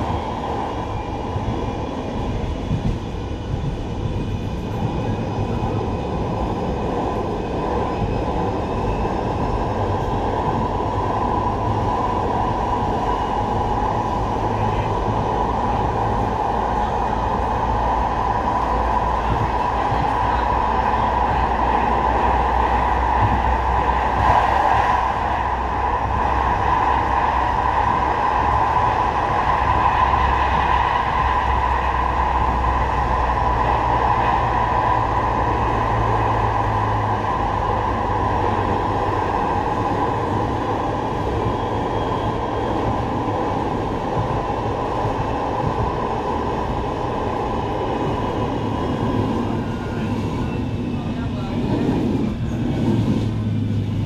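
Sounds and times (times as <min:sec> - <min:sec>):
tram wheels rumbling on rail: 0:00.0 - 0:54.0.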